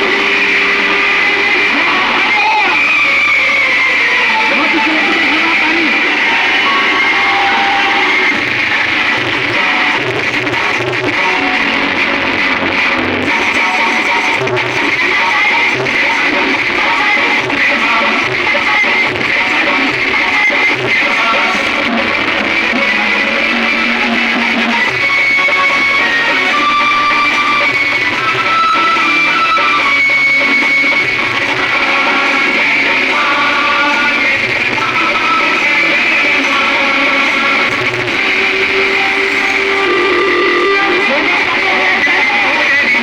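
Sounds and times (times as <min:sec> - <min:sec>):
guitar-led music: 0:00.0 - 0:43.0.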